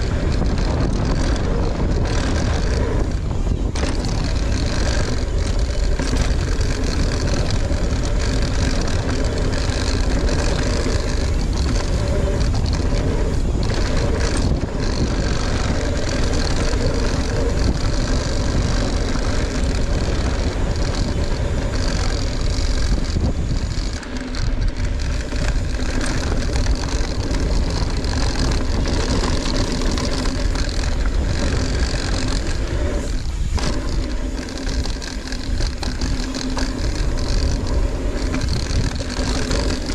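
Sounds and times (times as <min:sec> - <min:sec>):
bike tyres rumbling on dirt: 0:00.0 - 0:39.9
wind rushing on microphone: 0:00.0 - 0:39.9.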